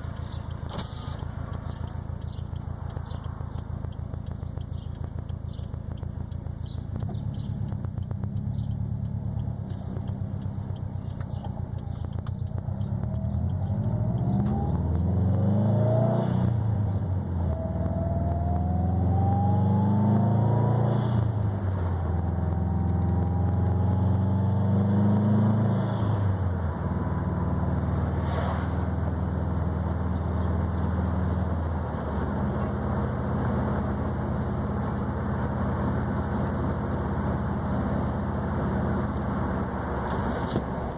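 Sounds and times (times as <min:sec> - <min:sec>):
car exhaust accelerating through gears: 0:00.0 - 0:40.9.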